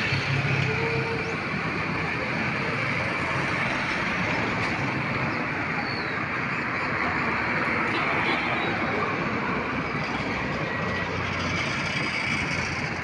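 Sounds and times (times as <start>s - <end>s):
tyre and road noise: 0.0s - 13.0s
vehicle engine hum: 0.0s - 13.0s.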